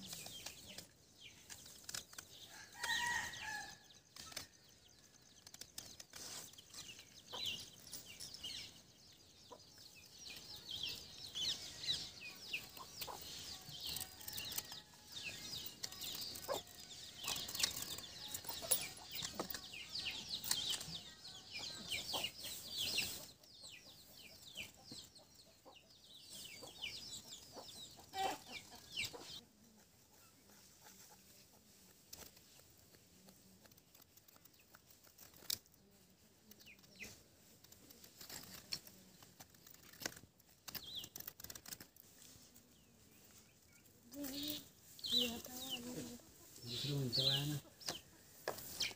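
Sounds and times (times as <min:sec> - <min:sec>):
chickens chirping: 0:00.0 - 0:48.9.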